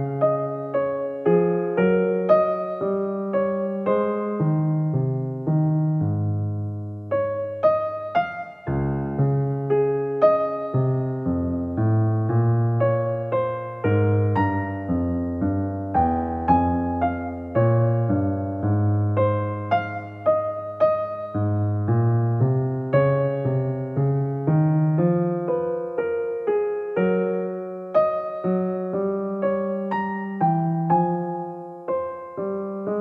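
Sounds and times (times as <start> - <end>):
gentle piano melody: 0.0 - 33.0.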